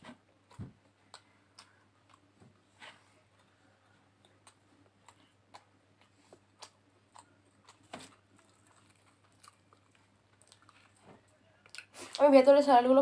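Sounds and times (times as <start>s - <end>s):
chewing food: 0.2s - 2.4s, 3.2s - 12.2s.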